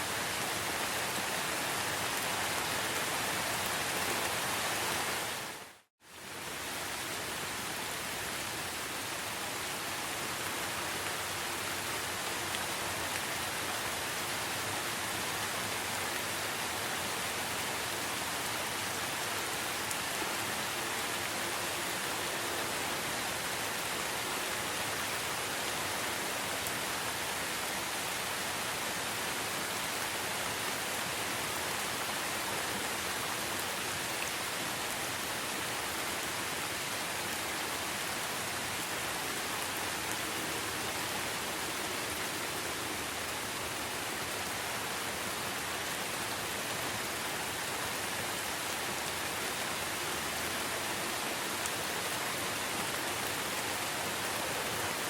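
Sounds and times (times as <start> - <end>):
dense rain hiss: 0.0 - 55.0.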